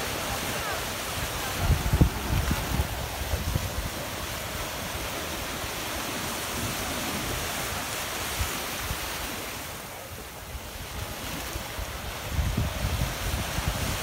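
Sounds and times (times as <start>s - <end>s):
small waves breaking on rocks: 0.0s - 14.0s
low wind rumble: 0.7s - 9.4s, 10.0s - 14.0s.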